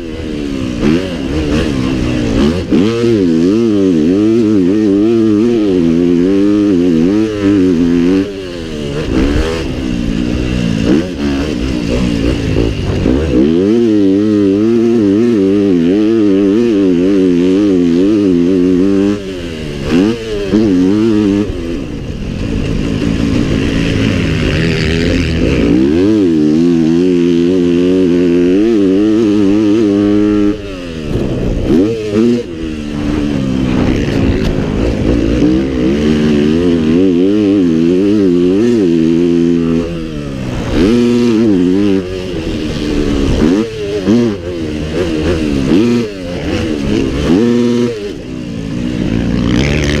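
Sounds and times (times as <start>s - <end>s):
small motorbike engine revving: 0.0s - 50.0s.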